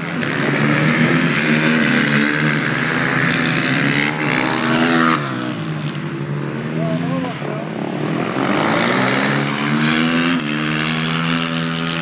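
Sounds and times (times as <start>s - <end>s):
race motorcycle engines revving: 0.0s - 12.0s.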